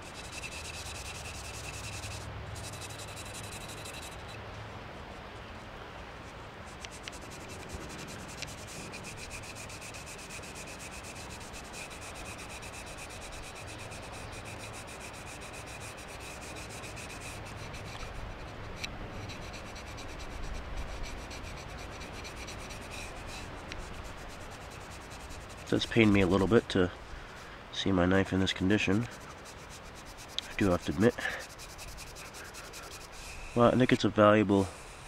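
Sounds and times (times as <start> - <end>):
brush scrubbing a knife blade: 0.0 - 4.4, 6.7 - 26.8, 28.5 - 33.7.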